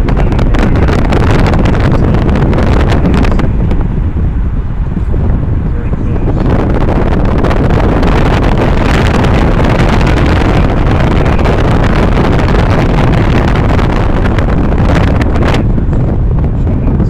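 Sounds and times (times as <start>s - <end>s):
road and tyre noise: 0.0s - 17.0s
wind on microphone: 0.0s - 17.0s.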